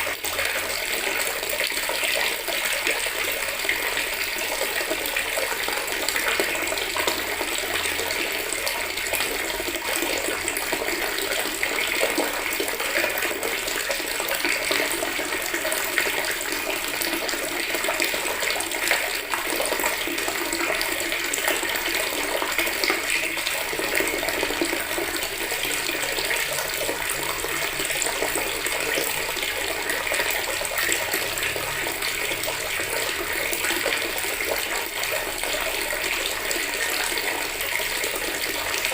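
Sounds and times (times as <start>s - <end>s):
tap water filling a bucket: 0.0s - 38.9s.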